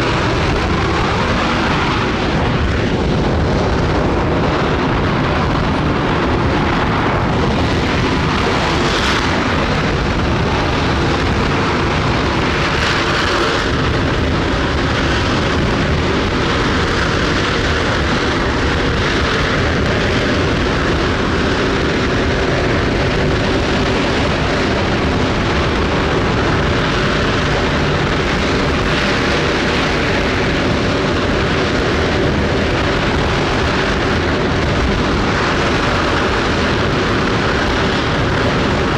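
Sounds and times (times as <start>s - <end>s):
rocket engine roaring: 0.0s - 38.9s.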